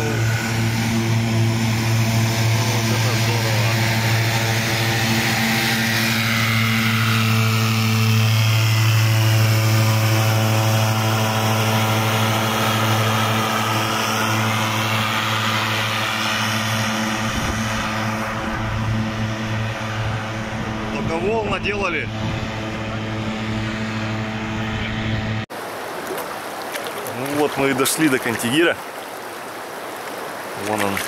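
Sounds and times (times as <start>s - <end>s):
airboat engine and propeller whine: 0.0s - 31.0s
low engine hum: 0.0s - 31.0s.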